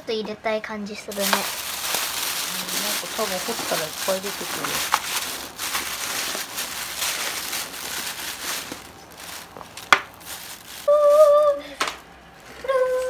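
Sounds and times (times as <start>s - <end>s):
plastic bag crinkling: 1.1s - 13.0s.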